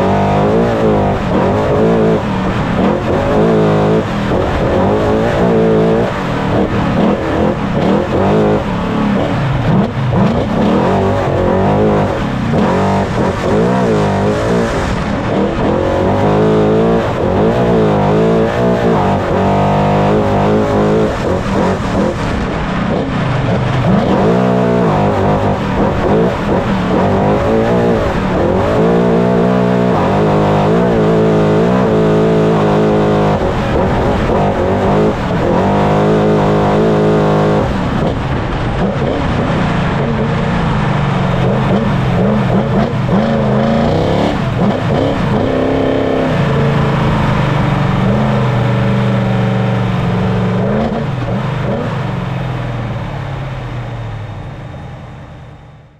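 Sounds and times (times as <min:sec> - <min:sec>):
race truck engine revving: 0:00.0 - 0:55.9.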